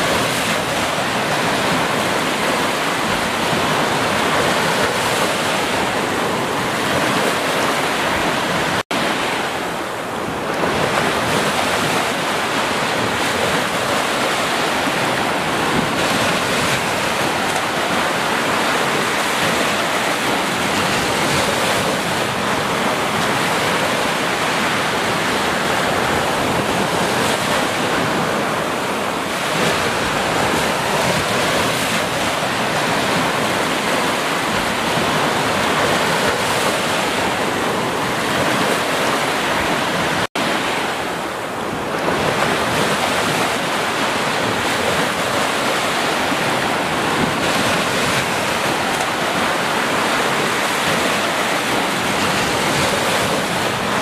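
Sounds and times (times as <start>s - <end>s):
waves breaking on sand: 0.0s - 54.0s.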